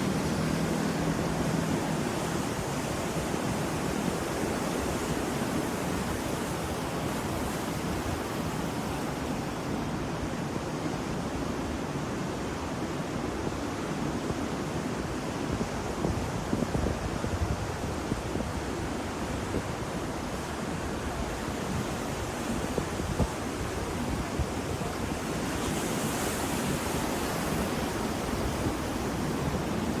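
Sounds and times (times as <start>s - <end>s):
ocean surf washing: 0.0s - 30.0s.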